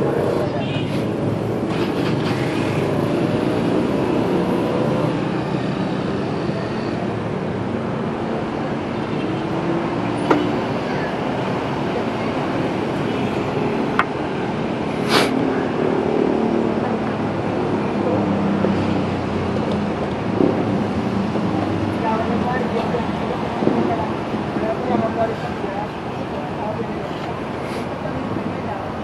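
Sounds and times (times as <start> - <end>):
road traffic noise: 0.0 - 29.0
vehicle engine: 0.0 - 29.0.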